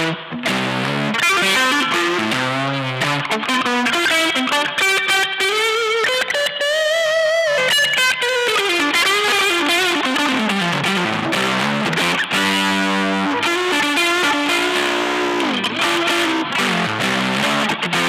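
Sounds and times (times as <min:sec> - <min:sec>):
overdriven electric guitar lead: 0:00.0 - 0:18.0.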